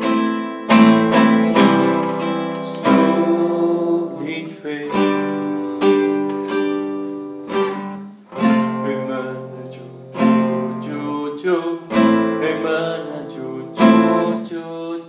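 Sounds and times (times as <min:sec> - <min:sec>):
acoustic guitar chords strummed: 0:00.0 - 0:15.0.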